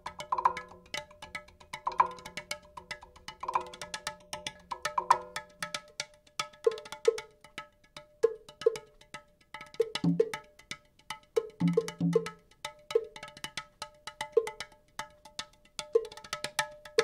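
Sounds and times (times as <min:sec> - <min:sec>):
small pitched percussion strikes: 0:00.0 - 0:17.0.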